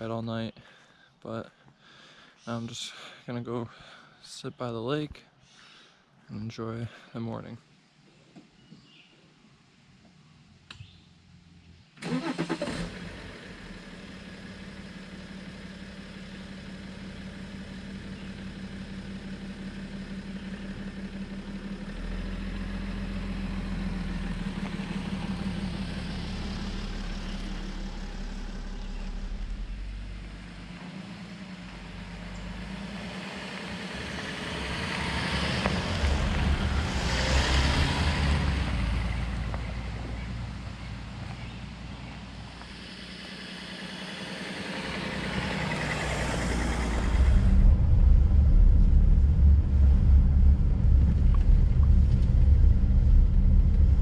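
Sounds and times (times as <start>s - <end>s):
tyres on dirt track: 0.0s - 5.1s, 10.0s - 54.0s
diesel engine starting and running: 10.6s - 54.0s.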